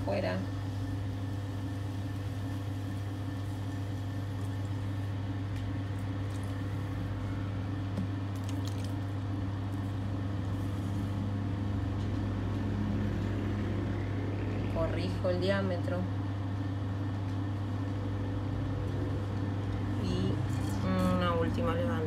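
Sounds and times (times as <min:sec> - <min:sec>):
potter's wheel motor hum: 0:00.0 - 0:22.0.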